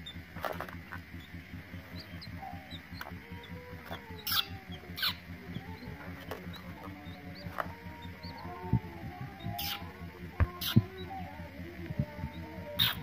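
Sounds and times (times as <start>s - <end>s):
chick peeping: 0.4s - 13.0s.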